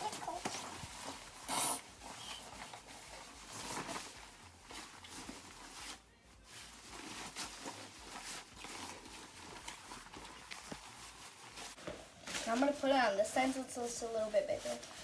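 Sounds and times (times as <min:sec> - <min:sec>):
jacket fabric rustling: 0:00.0 - 0:15.0.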